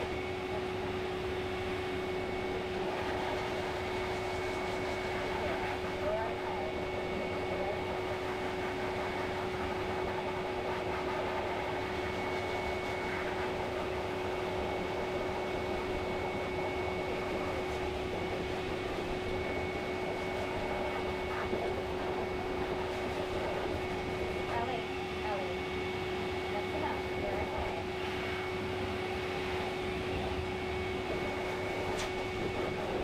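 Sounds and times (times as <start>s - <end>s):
grooming dryer blowing air: 0.0s - 33.0s.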